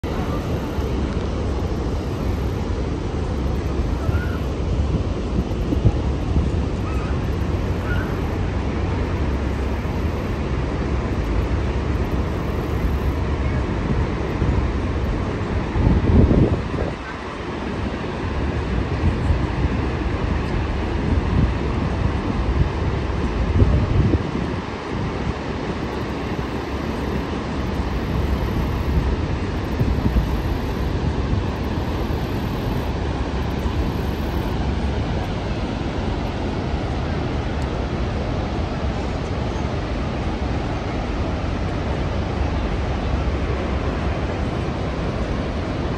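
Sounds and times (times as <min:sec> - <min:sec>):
waterfall rushing: 0:00.0 - 0:15.8, 0:24.6 - 0:45.9.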